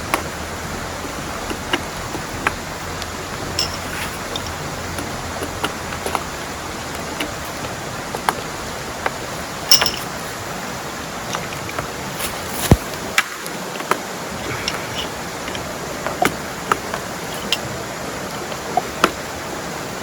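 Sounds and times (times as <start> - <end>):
large raindrops ticking: 0.0 - 19.6
heavy rain falling: 0.0 - 20.0.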